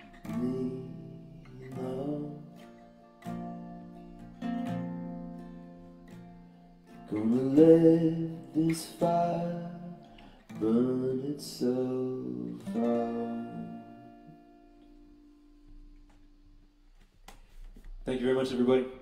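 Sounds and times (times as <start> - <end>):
acoustic guitar strumming chords: 0.0 - 16.8.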